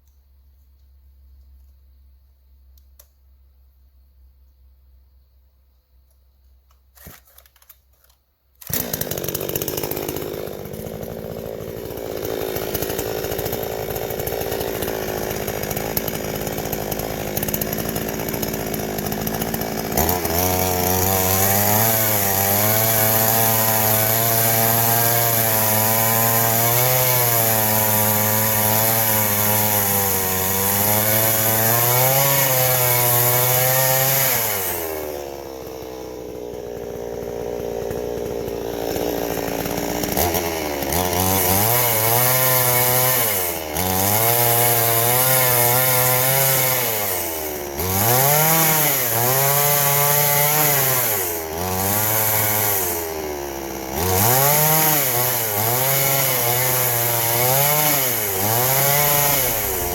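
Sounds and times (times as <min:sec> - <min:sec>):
chainsaw cutting wood: 0:06.7 - 0:59.9.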